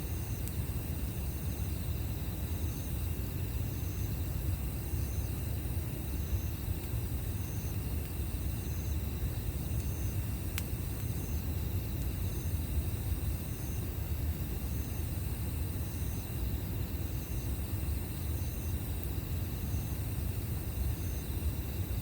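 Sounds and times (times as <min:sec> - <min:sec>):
campfire crack: 0:00.0 - 0:22.0
insects chirping: 0:00.0 - 0:22.0.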